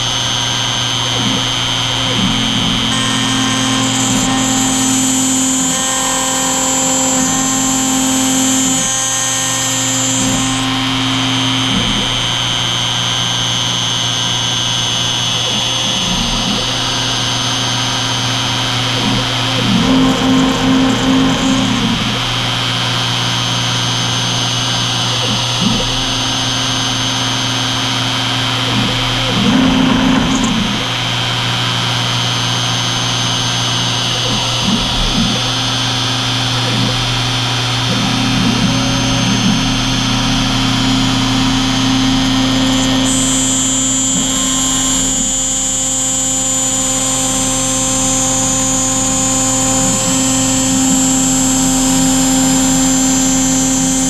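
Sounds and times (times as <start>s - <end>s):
machine motor tones: 0.0s - 54.0s
router cutting plastic: 0.0s - 54.0s
router spindle whine: 0.0s - 54.0s.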